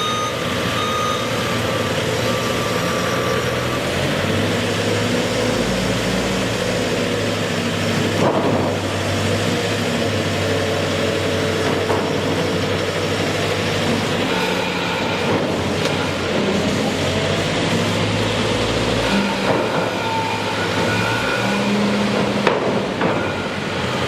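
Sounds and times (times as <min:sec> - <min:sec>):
heavy machinery engine running: 0:00.0 - 0:24.0.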